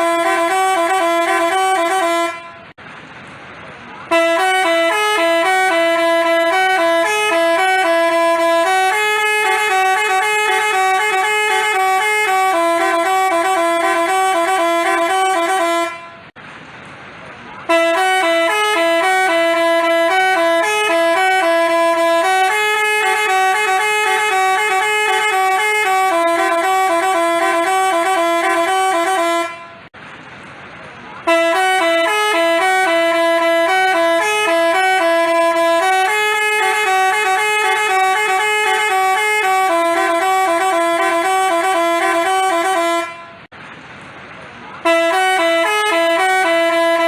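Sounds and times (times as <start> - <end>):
bus musical horn tune: 0.0 - 2.8, 4.0 - 16.4, 17.6 - 30.0, 31.2 - 43.5, 44.8 - 47.0.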